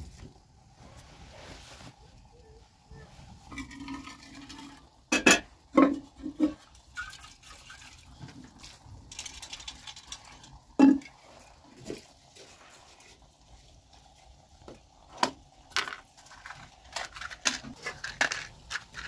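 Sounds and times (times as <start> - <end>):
metal containers clinking: 3.4 - 19.0.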